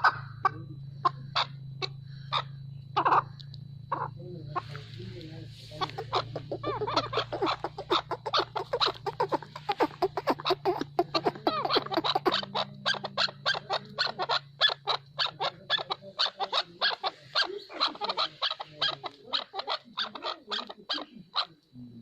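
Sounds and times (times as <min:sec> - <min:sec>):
partridge clucking calls: 0:00.0 - 0:21.7.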